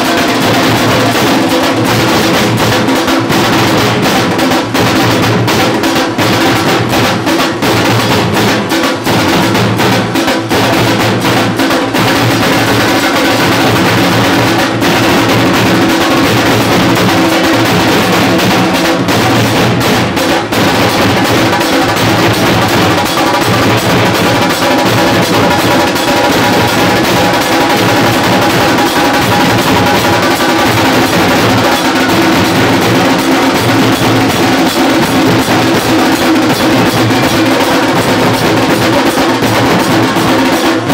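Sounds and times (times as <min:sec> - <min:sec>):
stick-beaten drums playing fast rhythm: 0:00.0 - 0:40.9.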